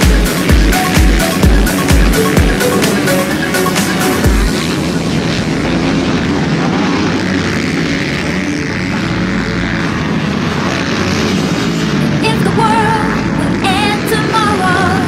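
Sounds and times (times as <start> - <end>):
motocross bike engines running: 0.0 - 15.0.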